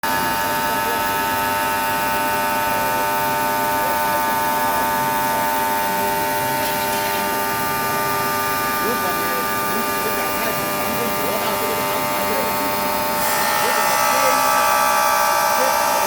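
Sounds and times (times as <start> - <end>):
machine motors humming: 0.0 - 16.0.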